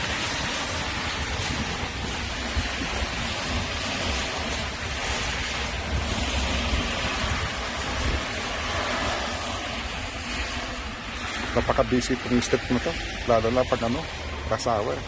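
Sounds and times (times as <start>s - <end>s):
light rain: 0.0s - 15.0s
street traffic: 0.0s - 15.0s
wind rumbling on microphone: 0.0s - 15.0s.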